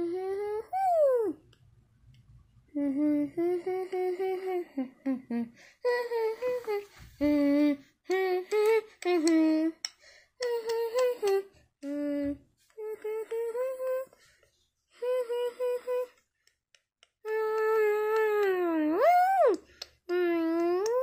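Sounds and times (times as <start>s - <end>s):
high voice humming: 0.0s - 1.4s, 2.7s - 9.8s, 10.4s - 14.2s, 15.0s - 16.2s, 17.2s - 21.0s.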